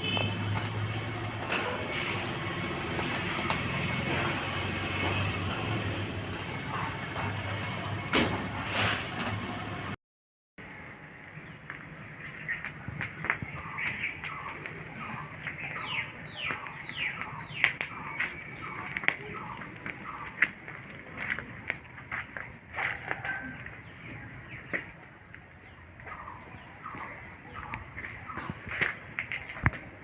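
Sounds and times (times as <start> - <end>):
birds chirping: 0.0 - 8.6, 11.3 - 30.0.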